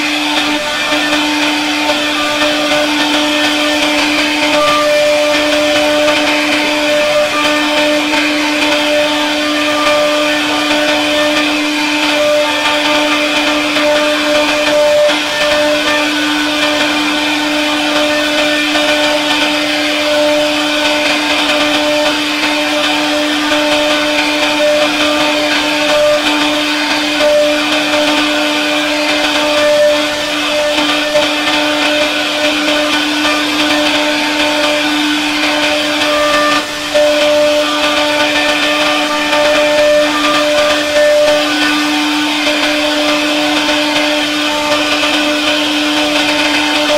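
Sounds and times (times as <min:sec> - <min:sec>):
router spindle carving wood: 0:00.0 - 0:46.9.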